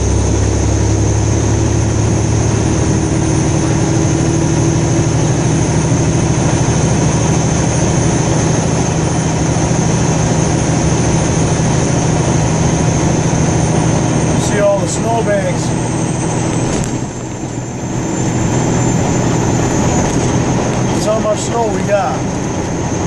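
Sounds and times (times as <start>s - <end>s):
car engine and road noise: 0.0s - 23.0s
low hum: 0.0s - 23.0s.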